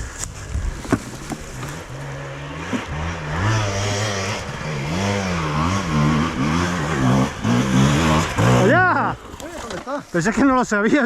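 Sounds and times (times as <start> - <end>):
motorcycle engine revving: 0.0 - 10.1.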